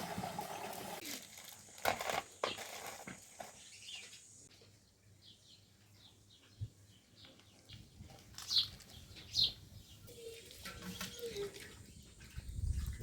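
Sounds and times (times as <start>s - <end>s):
small birds chirping: 2.4s - 13.0s.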